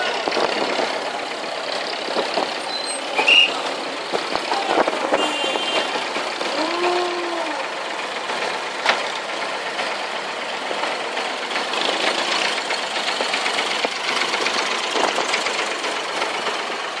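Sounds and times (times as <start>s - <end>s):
boat diesel engine idling: 0.0s - 17.0s.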